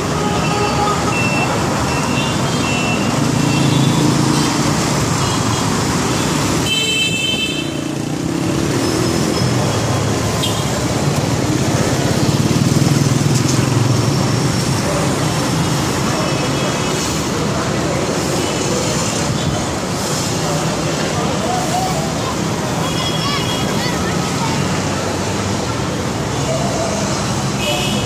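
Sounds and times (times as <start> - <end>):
vehicle engines running: 0.0 - 6.7, 7.7 - 27.8.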